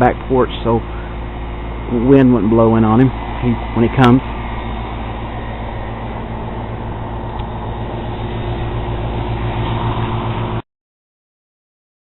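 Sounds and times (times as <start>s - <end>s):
mechanical hum with low drone: 0.0s - 10.6s
rushing noise: 0.0s - 10.6s.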